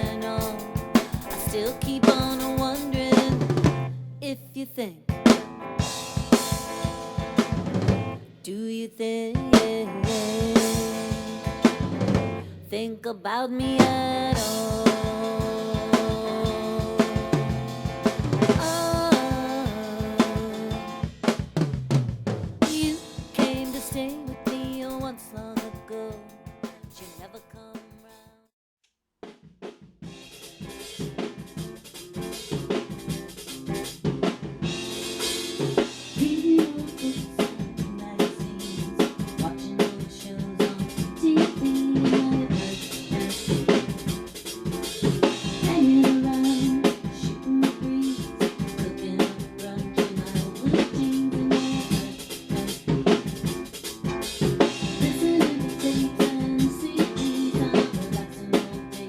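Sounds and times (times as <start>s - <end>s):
drum kit groove: 0.0s - 4.2s, 5.1s - 13.0s, 13.6s - 28.5s, 29.2s - 59.0s.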